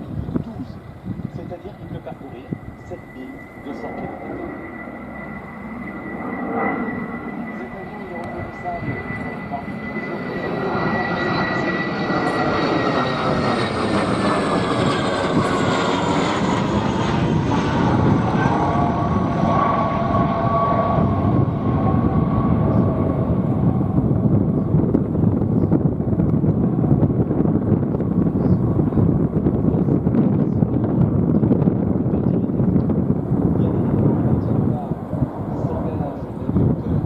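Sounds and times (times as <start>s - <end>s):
turboprop aircraft passing by: 0.0s - 37.0s.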